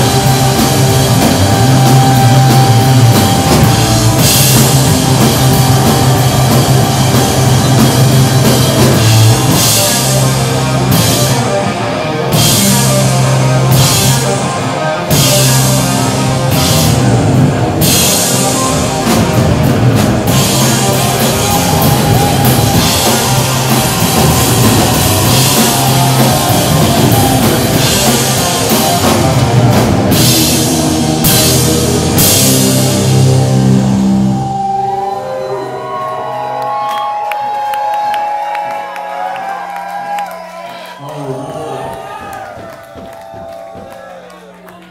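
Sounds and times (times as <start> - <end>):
live heavy rock band: 0.0 - 36.3.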